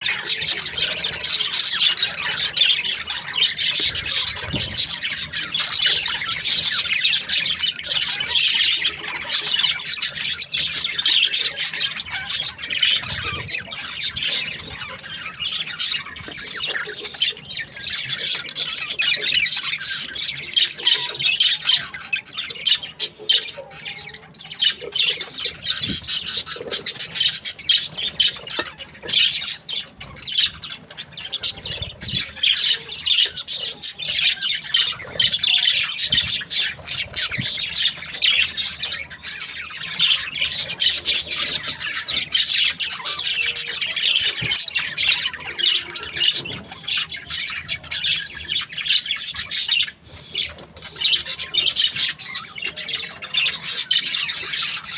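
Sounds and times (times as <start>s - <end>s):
budgerigars chattering and chirping: 0.0s - 54.9s.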